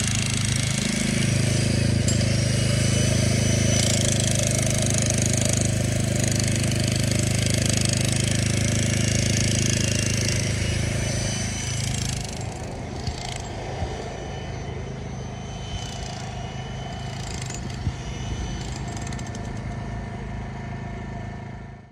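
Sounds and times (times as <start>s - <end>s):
machinery engine running: 0.0s - 21.9s.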